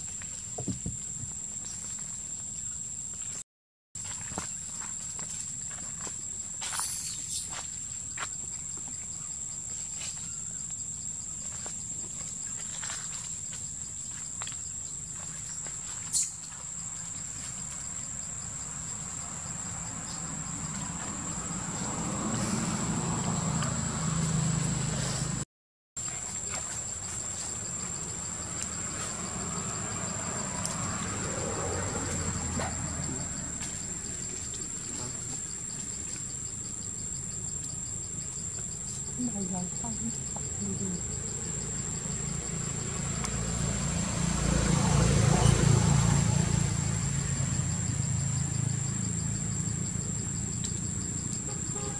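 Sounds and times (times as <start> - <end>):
insects droning: 0.0 - 3.4, 4.0 - 25.4, 26.0 - 51.9.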